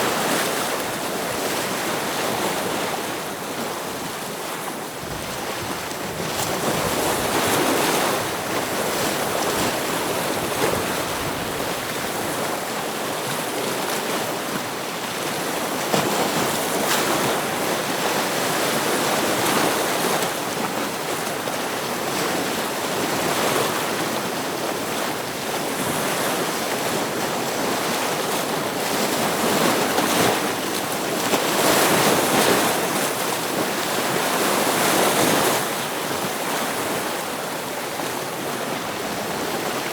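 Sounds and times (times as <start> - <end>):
ocean waves breaking against rocks: 0.0 - 39.9.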